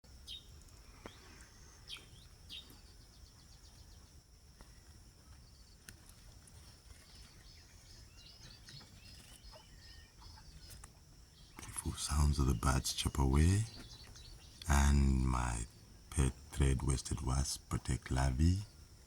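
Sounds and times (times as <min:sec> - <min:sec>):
birds chirping: 0:00.2 - 0:19.0.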